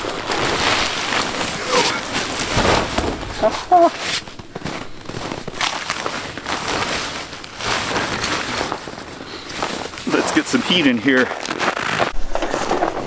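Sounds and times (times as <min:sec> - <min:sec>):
footsteps crunching on frozen snow: 0:00.0 - 0:12.8
rustling: 0:00.0 - 0:13.0.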